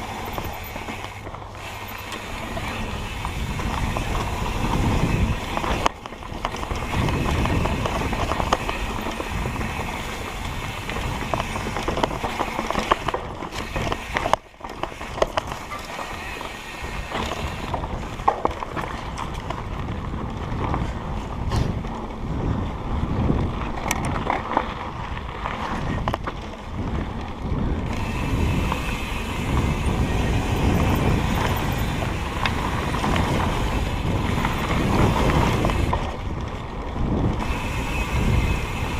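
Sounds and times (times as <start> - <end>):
bike rattling over rough ground: 0.0 - 38.9
bike tyres on dirt trail: 0.0 - 38.9.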